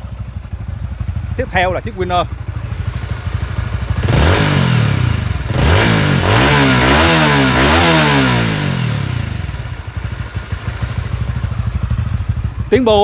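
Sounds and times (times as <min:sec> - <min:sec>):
motorcycle engine revving: 0:00.0 - 0:13.0
motorcycle idling: 0:00.0 - 0:13.0.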